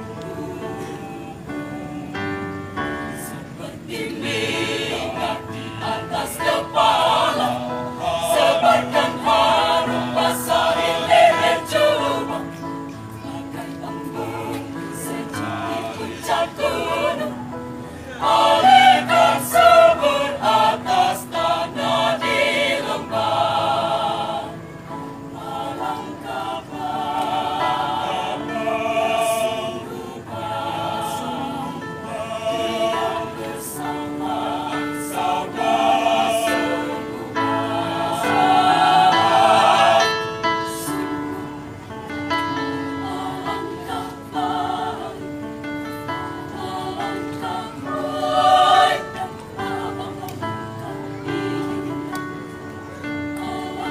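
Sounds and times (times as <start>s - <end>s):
mixed choir singing: 0.0s - 53.9s.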